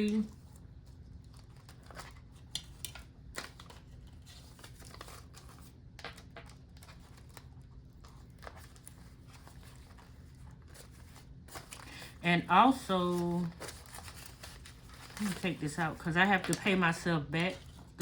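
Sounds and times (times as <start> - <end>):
paper banknotes rustling: 0.0 - 18.0.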